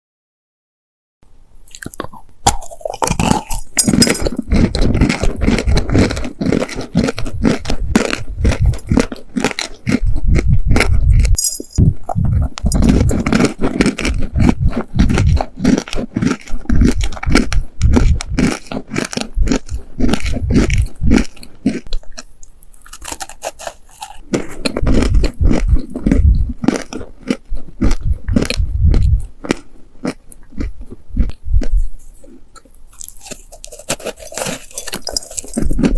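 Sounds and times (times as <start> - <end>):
person chewing crunchy cookies: 1.6 - 35.9.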